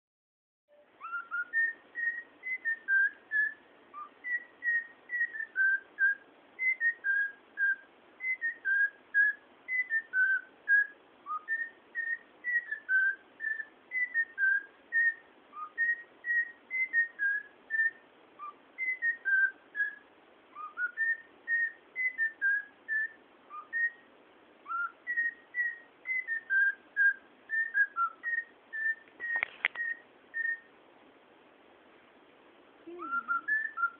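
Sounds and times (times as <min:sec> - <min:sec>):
cockatiel whistling a tune: 0:00.7 - 0:30.7, 0:32.9 - 0:33.9.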